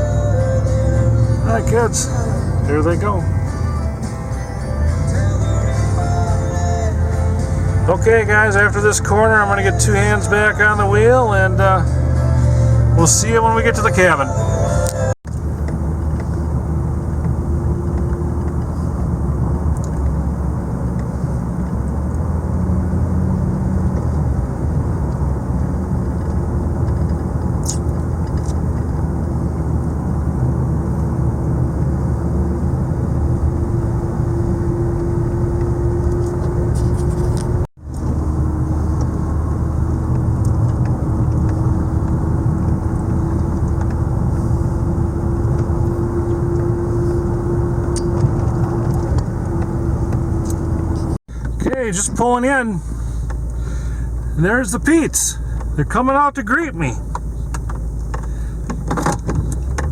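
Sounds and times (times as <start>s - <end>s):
car engine in cabin: 0.0s - 59.9s
road noise: 0.0s - 59.9s.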